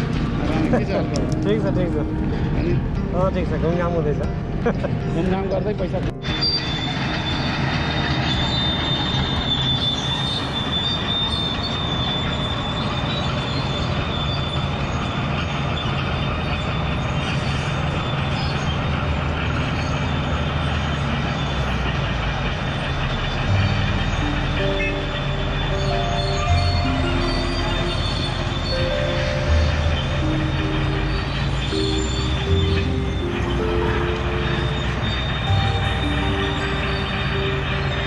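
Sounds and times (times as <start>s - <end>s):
vehicle road rumble and hiss: 0.0s - 38.0s.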